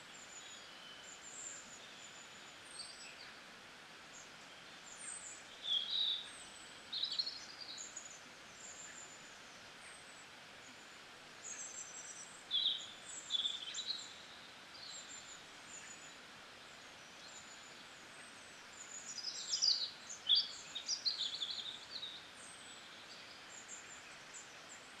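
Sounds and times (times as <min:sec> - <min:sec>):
faint steady hiss: 0:00.0 - 0:25.0
small birds chirping: 0:00.0 - 0:25.0.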